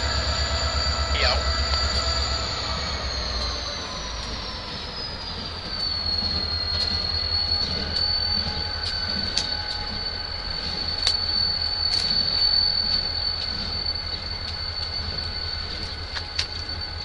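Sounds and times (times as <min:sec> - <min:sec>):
diesel locomotive engine rumble: 0:00.0 - 0:17.0
high wheel squeal: 0:00.0 - 0:17.0
wheels clicking over rail joints: 0:00.9 - 0:17.0.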